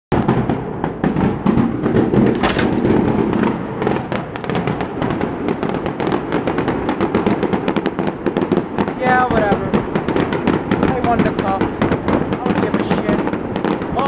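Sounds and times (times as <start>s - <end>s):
fireworks bangs and crackles: 0.1s - 14.0s.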